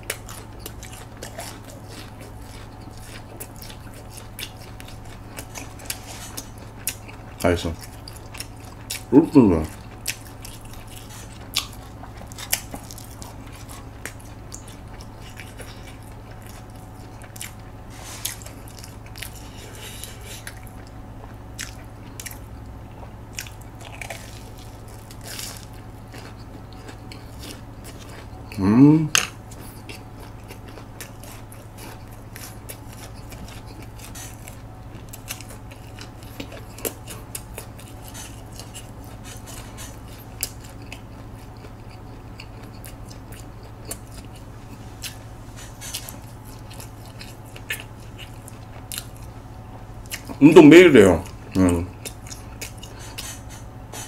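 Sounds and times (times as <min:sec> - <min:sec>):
chewing and biting crisp food: 0:00.0 - 0:54.0
steady low hum: 0:00.0 - 0:54.0.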